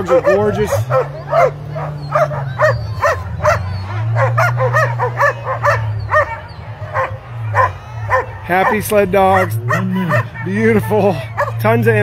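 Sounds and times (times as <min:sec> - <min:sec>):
sled dogs barking and yipping: 0:00.0 - 0:12.0.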